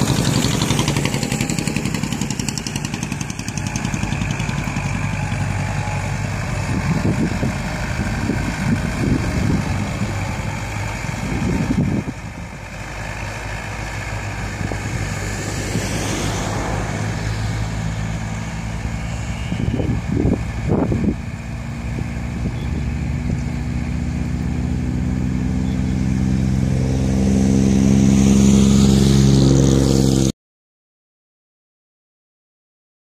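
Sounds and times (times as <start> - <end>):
tractor diesel engine running: 0.0 - 30.3.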